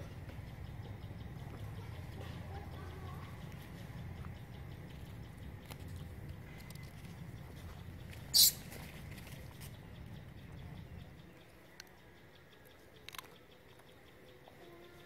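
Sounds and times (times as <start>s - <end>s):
low steady rumble: 0.0s - 12.7s.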